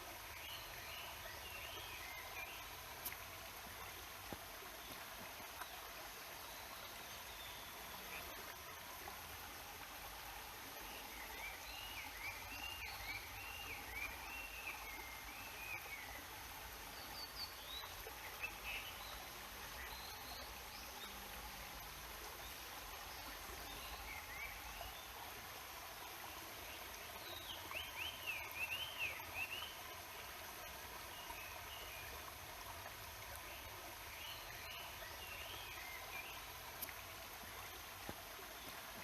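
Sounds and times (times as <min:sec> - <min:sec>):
stream murmuring: 0:00.0 - 0:39.0.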